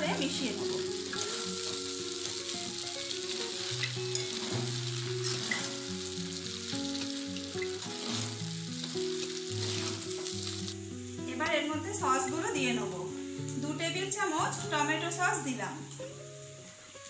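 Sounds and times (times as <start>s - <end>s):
food sizzling in a wok: 0.0s - 17.0s
slow music with held notes: 0.0s - 17.0s.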